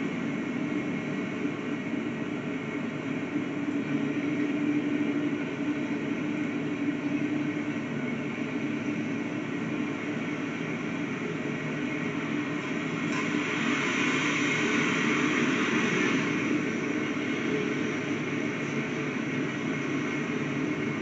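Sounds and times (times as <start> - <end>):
coal train rumbling past: 0.0 - 21.0.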